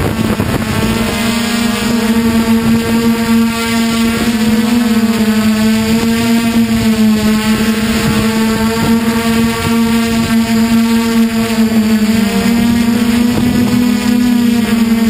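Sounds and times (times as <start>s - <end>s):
drone motors buzzing: 0.0s - 15.0s.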